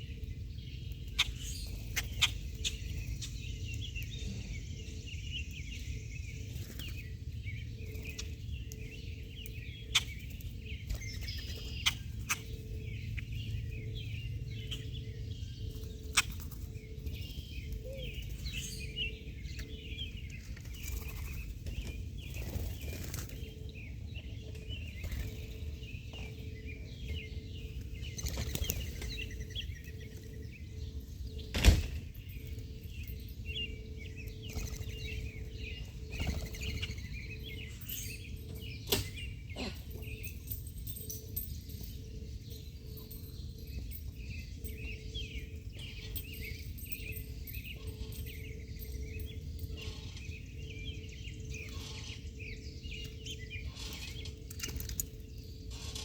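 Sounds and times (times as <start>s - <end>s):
faint steady hum: 0.0s - 56.0s
small birds chirping: 0.0s - 56.0s.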